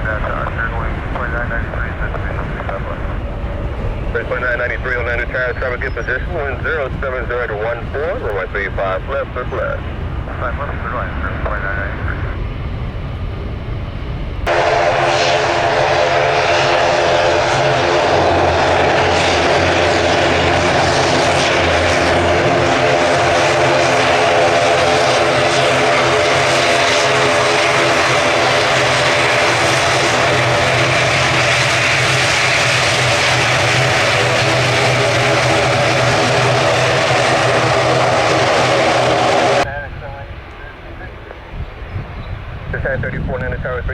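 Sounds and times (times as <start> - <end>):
aircraft engines roaring: 0.0 - 43.9.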